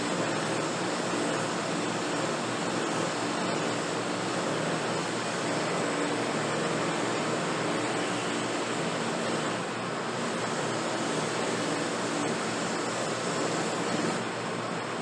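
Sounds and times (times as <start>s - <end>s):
workshop machine rushing: 0.0s - 14.7s.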